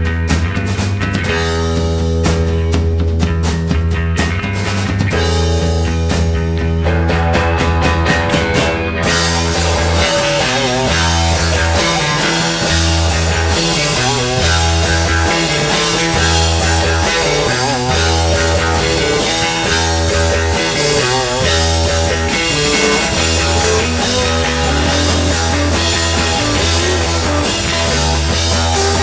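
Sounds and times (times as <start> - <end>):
bending lead guitar notes: 0.0 - 29.0
drum hits: 0.0 - 29.0
rock band playing live: 0.0 - 29.0.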